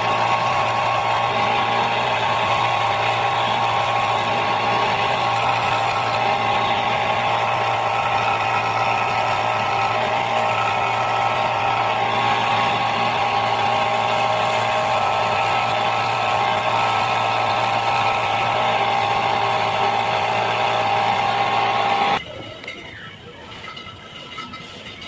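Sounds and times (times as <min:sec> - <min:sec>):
electric jigsaw motor whine: 0:00.0 - 0:22.2.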